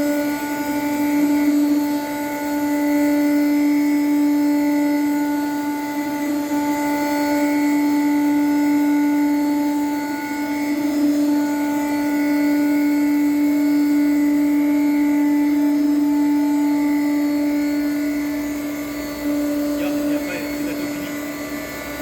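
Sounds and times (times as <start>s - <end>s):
router spindle high whine: 0.0s - 22.0s.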